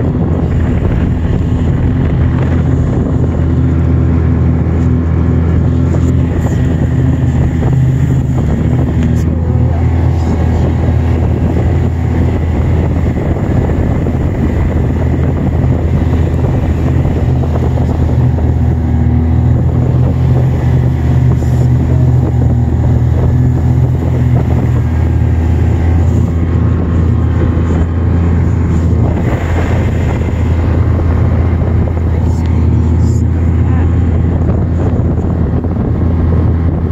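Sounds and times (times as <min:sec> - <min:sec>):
snowmobile engine running: 0:00.0 - 0:36.9
wind buffeting microphone: 0:00.0 - 0:36.9.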